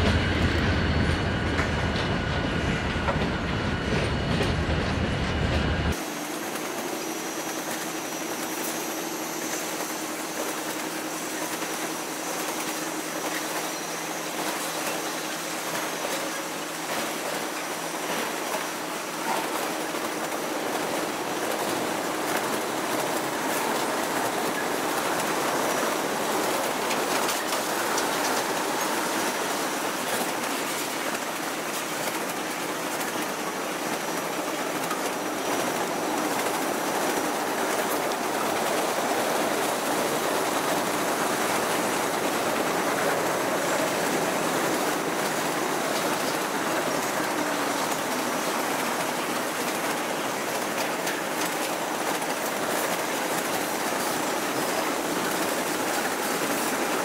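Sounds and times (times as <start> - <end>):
freight train rolling past: 0.0 - 57.0
wheels clicking over rail joints: 5.9 - 57.0.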